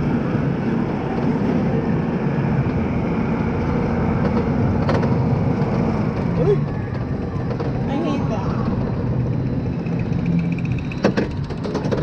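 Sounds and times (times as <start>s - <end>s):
lift chain rumbling and rattling: 0.0s - 12.0s.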